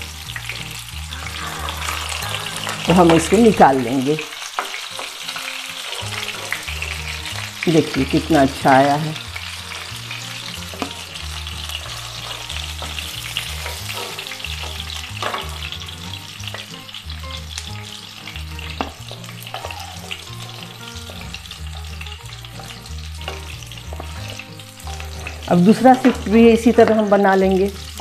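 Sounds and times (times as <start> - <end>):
fish sizzling in hot oil: 0.0 - 28.0
metal spoon scraping a pan: 0.5 - 8.3, 9.2 - 16.9, 18.6 - 26.4.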